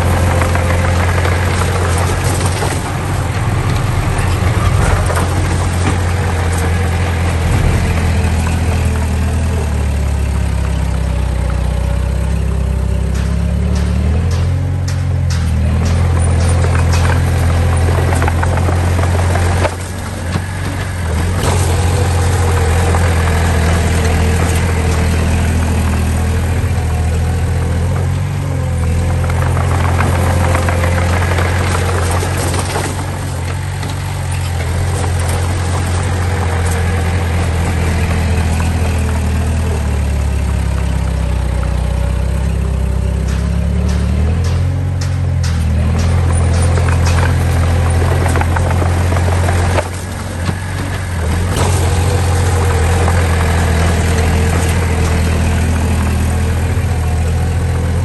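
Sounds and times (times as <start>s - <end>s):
clicks and clanks: 0.0s - 58.0s
diesel engine running: 0.0s - 58.0s.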